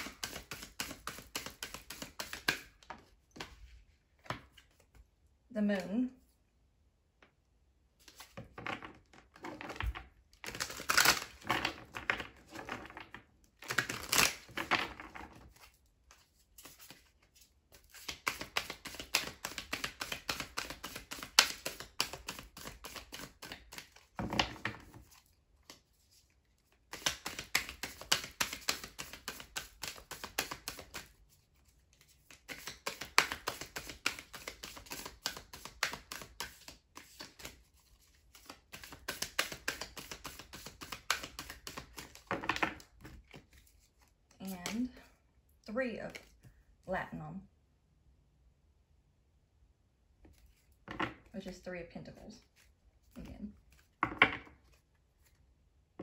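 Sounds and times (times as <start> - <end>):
cards being shuffled: 0.0 - 5.0, 8.0 - 45.0, 52.4 - 55.4.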